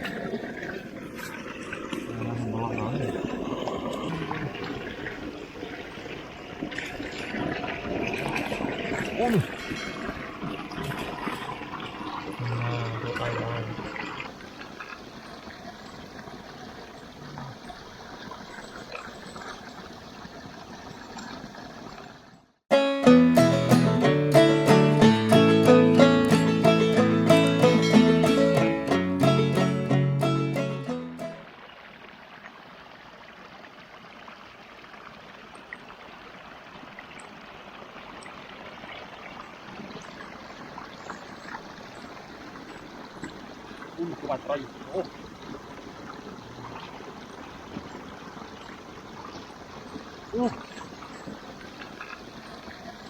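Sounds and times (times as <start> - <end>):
shallow water trickling: 0.0 - 22.6, 23.9 - 53.0.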